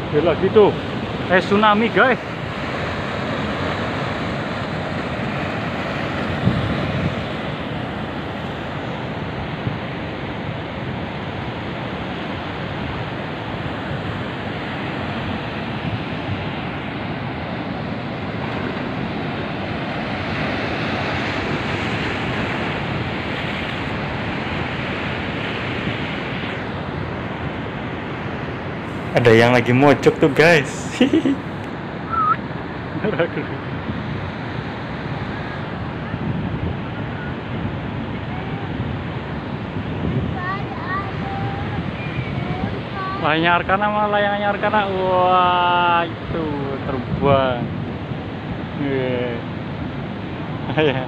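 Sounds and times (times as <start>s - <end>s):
ocean waves breaking on rocks: 0.0s - 51.0s.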